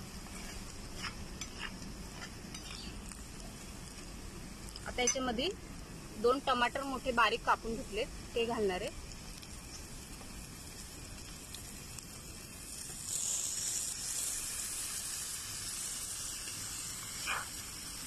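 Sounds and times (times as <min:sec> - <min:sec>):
tomatoes sizzling in hot oil: 0:00.0 - 0:18.0.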